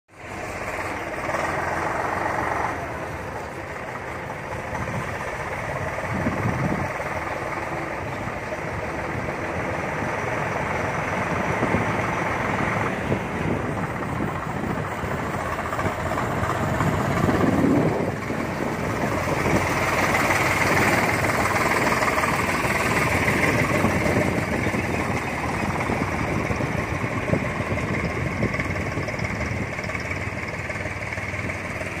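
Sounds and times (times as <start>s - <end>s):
road noise: 0.1s - 32.0s
tractor diesel engine running: 0.1s - 32.0s.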